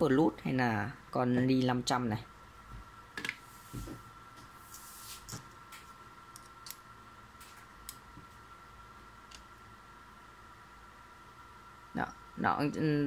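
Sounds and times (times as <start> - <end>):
faint steady high whine: 0.0 - 13.0.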